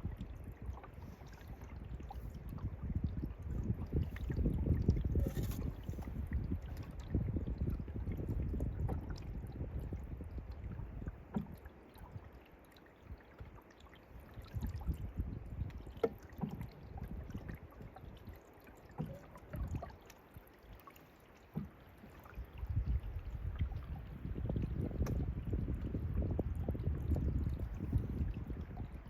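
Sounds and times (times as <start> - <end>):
water gurgling and splashing: 0.0 - 29.0.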